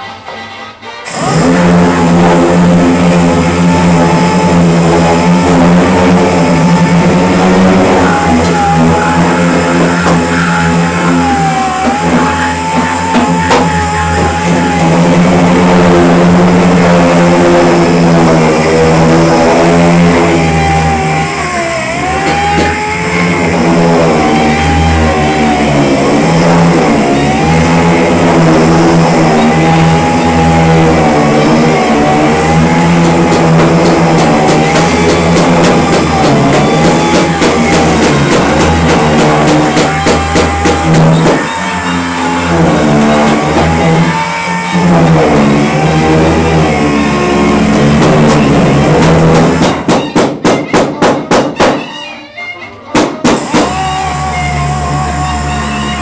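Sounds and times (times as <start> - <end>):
loud rock music: 0.0 - 50.0.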